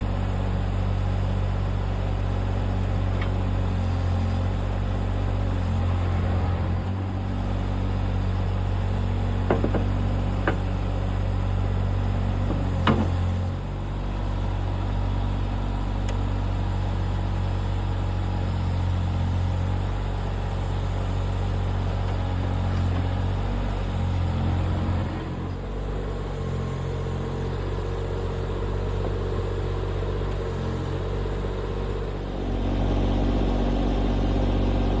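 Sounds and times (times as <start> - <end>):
diesel engine at low revs: 0.0 - 35.0.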